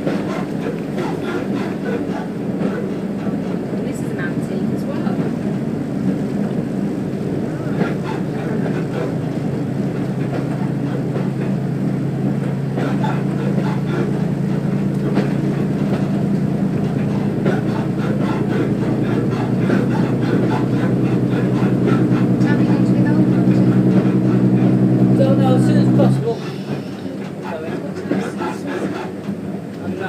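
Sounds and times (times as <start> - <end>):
railbus engine hum: 0.0 - 30.0
train running noise: 0.0 - 30.0.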